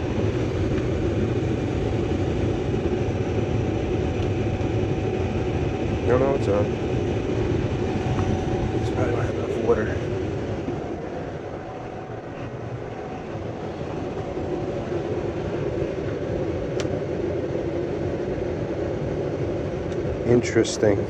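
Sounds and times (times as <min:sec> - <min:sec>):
furnace blower rushing air: 0:00.0 - 0:17.9.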